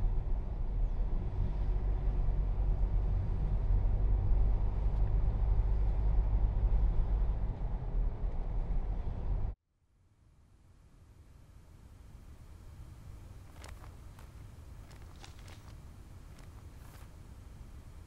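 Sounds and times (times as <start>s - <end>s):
car road and engine rumble: 0.0s - 9.6s, 10.7s - 18.0s.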